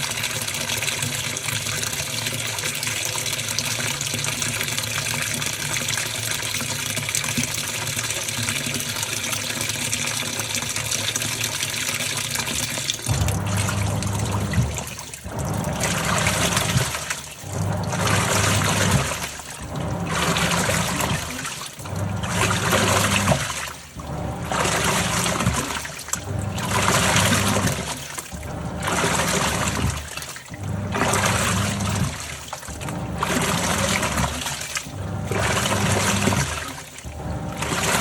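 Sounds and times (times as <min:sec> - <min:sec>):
washing machine motor hum: 0:00.0 - 0:38.0
water churning: 0:00.0 - 0:38.0.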